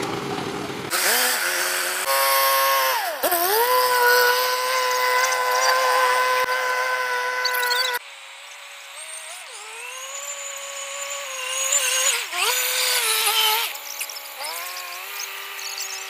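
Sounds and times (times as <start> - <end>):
tracked cart engine whine: 0.0 - 16.0.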